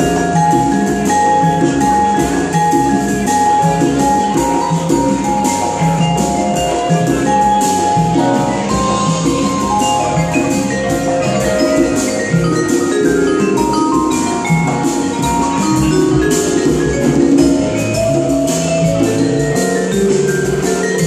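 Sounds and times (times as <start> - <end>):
latin jazz band playing: 0.0 - 21.0
vibraphone lines: 0.0 - 21.0.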